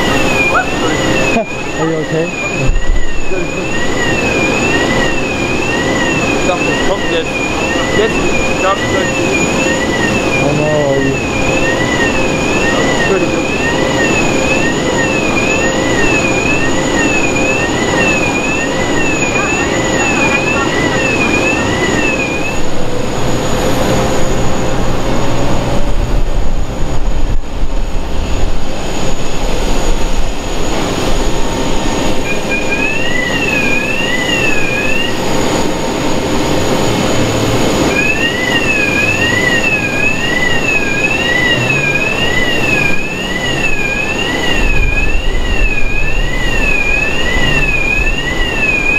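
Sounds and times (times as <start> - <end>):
steady apron drone: 0.0 - 48.9
two-tone warbling warning alarm: 0.0 - 48.9.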